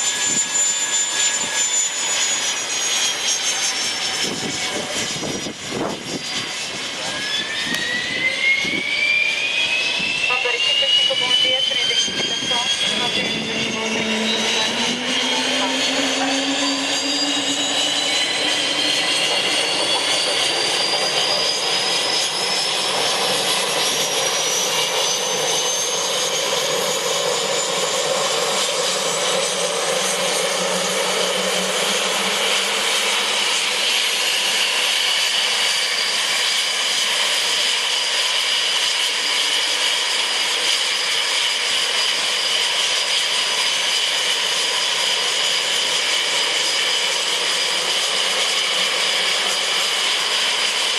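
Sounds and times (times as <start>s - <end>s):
jet engines roaring and whining: 0.0s - 50.9s.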